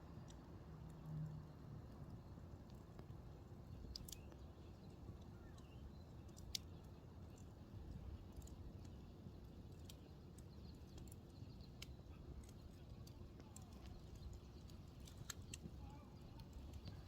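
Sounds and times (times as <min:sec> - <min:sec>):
embers crackling and popping: 0:00.1 - 0:17.0.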